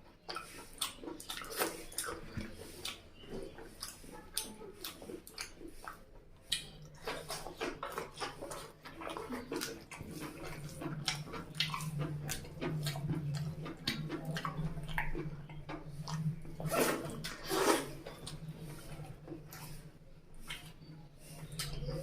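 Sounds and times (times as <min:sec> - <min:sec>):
chewing with wet mouth smacks: 0:00.0 - 0:22.0.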